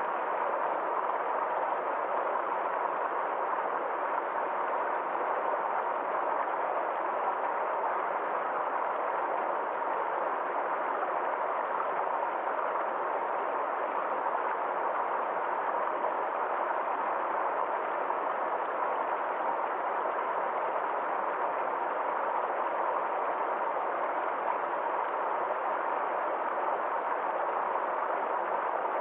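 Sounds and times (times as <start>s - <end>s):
stream flowing over waterfall: 0.1s - 29.0s.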